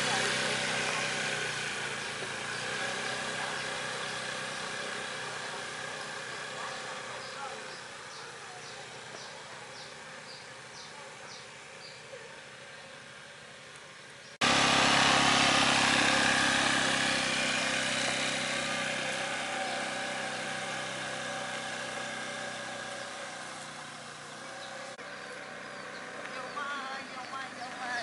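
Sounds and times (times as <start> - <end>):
faint outdoor background: 0.0 - 28.0
scooter engine pulling away: 0.0 - 28.0.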